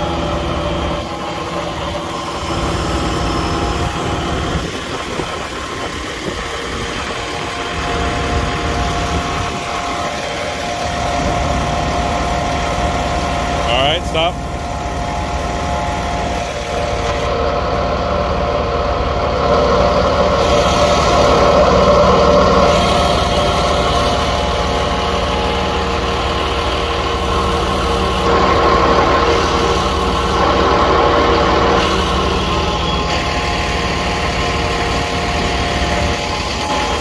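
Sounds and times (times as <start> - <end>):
truck engine and pump humming: 0.0 - 37.0.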